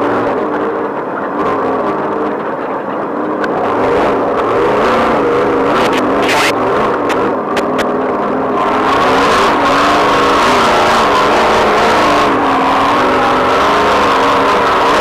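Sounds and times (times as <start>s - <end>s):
engine revving hard: 0.0s - 15.0s.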